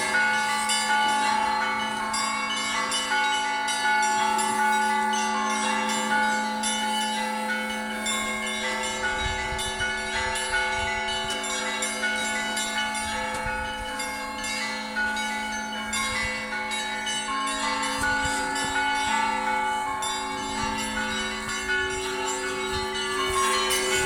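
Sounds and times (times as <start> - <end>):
large bells humming: 0.0 - 24.0
small high church bells striking: 0.0 - 24.0.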